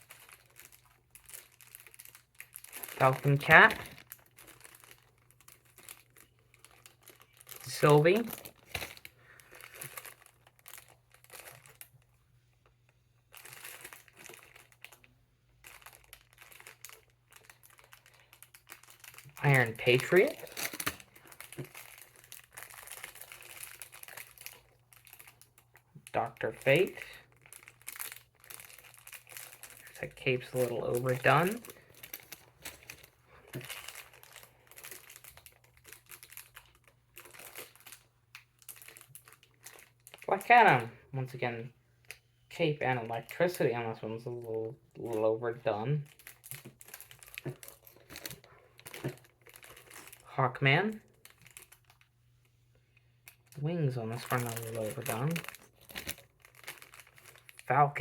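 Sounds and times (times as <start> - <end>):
plastic packaging crinkling: 0.0 - 58.0.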